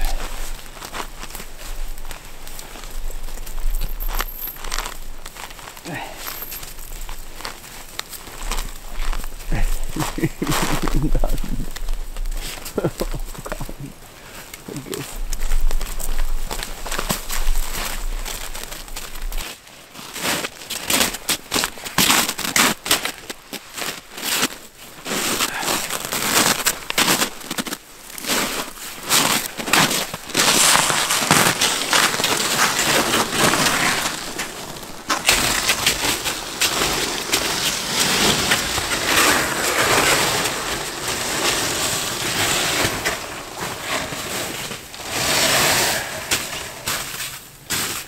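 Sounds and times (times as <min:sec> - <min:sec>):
boots crunching in snow: 0:00.0 - 0:13.9, 0:14.7 - 0:39.3
rope and gear rustling: 0:00.0 - 0:48.0.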